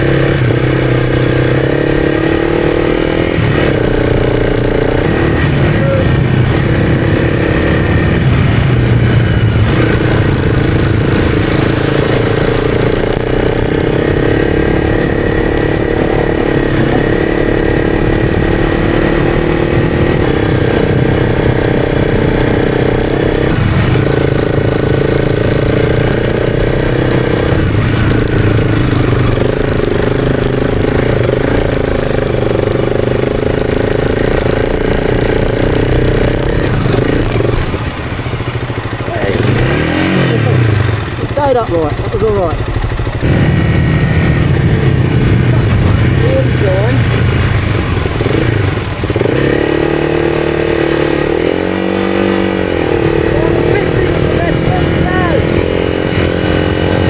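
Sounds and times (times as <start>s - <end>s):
motorcycle engine revving under load: 0.0s - 57.0s.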